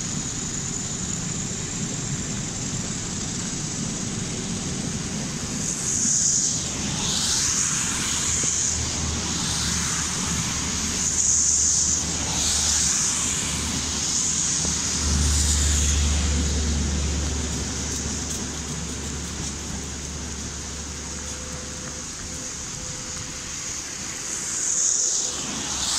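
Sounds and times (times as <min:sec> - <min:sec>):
diesel locomotive engine hum: 0:00.0 - 0:25.9
high hiss: 0:00.0 - 0:25.9
train coaches rumbling past: 0:00.0 - 0:25.9.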